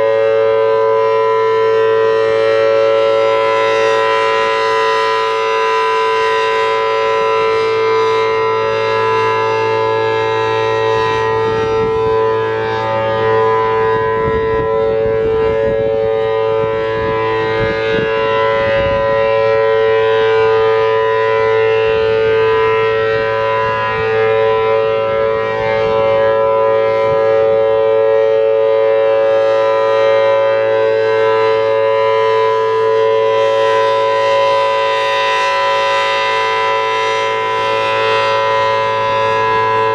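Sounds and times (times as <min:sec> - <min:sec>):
warning siren two-note chord: 0:00.0 - 0:39.9.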